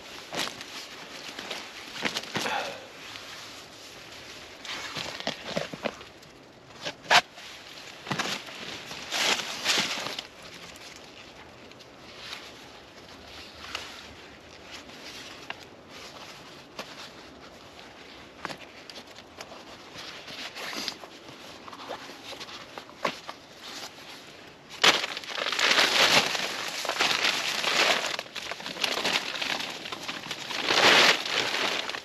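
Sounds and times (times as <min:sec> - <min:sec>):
foam pad crinkling and rustling: 0:00.0 - 0:32.0.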